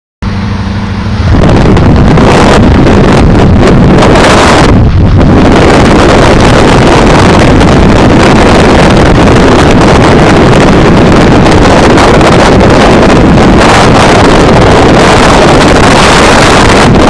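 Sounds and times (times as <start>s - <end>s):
car engine running: 0.2s - 17.0s
wind buffeting microphone: 0.2s - 17.0s.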